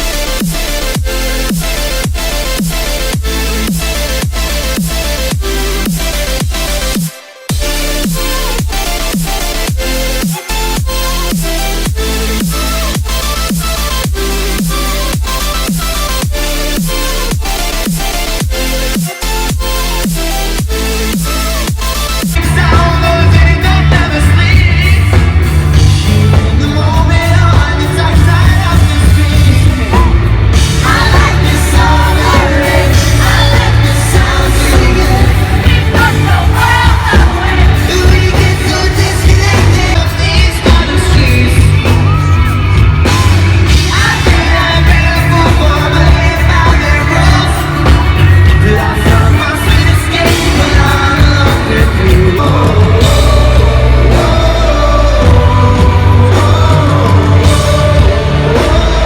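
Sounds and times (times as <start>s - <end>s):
heavy bass: 0.0s - 59.0s
loud music with singing: 0.0s - 59.0s.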